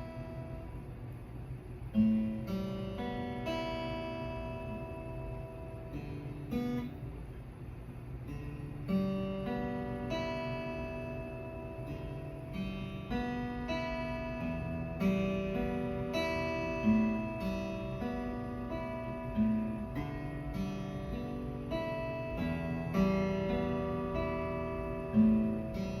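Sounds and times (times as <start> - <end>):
acoustic guitar picked chords: 0.0 - 26.0.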